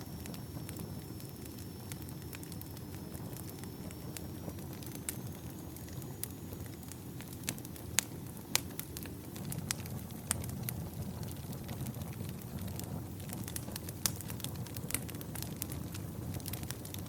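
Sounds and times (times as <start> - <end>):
burning logs crackling and popping: 0.0 - 17.0
campfire flame rushing: 0.0 - 17.0.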